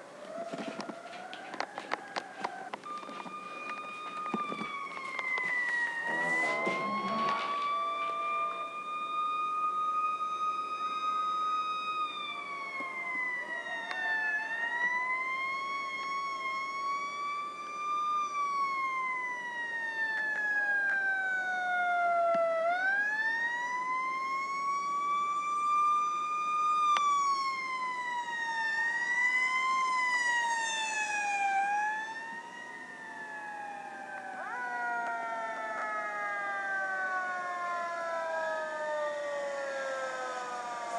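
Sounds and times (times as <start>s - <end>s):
fire truck siren wailing: 0.0s - 40.9s.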